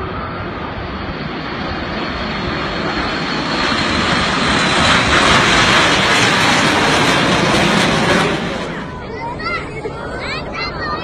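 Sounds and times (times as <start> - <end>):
jet engines rushing overhead: 0.0 - 11.0.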